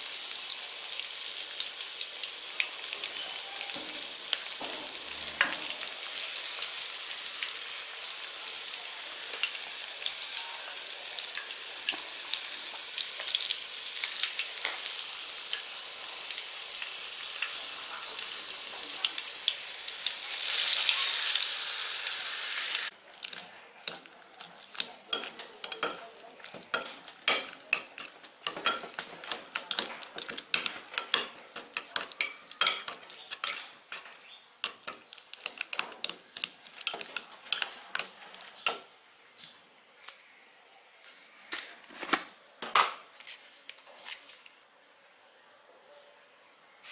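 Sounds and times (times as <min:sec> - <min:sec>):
meat deep-frying in oil: 0:00.0 - 0:38.7.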